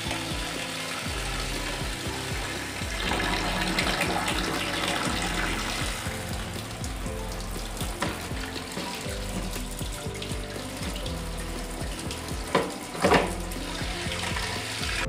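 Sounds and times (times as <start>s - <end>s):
background music: 0.0s - 15.0s
tap water splashing into tub: 0.1s - 15.0s.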